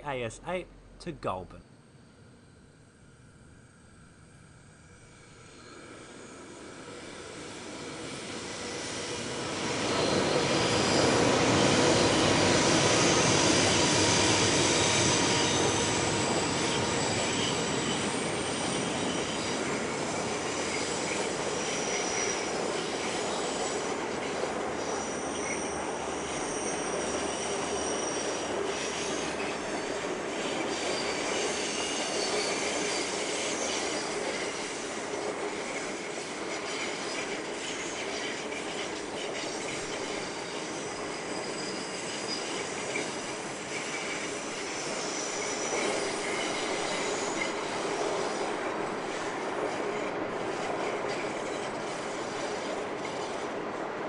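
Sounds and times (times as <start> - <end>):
train wheels squealing: 5.0 - 54.0
train rumbling past: 5.1 - 54.0.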